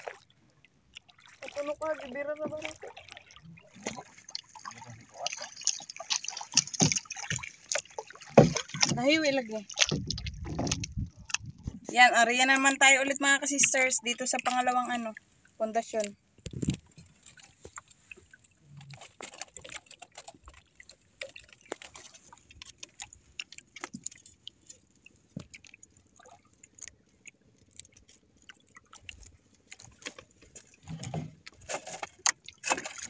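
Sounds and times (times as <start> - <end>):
water lapping against boat hull: 0.0 - 33.0.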